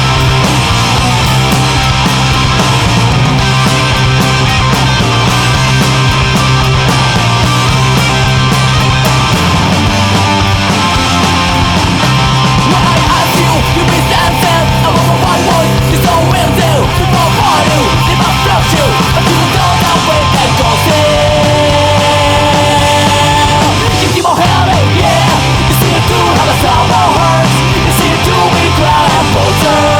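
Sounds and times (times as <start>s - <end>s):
rock band playing: 0.0s - 29.9s.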